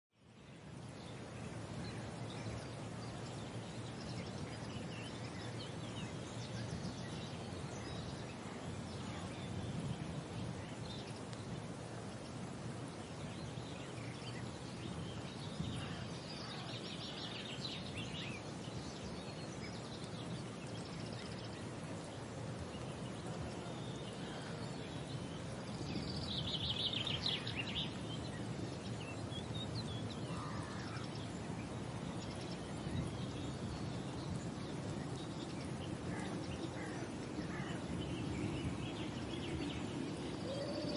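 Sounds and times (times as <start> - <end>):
bird calls and chirps: 0.2 - 40.9
low background rush: 0.2 - 40.9.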